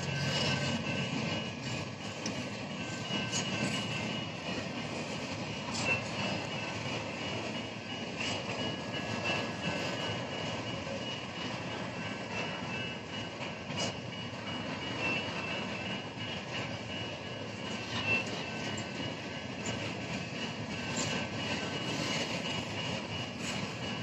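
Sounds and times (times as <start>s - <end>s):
freight train wheels rumbling on rail: 0.0s - 24.0s.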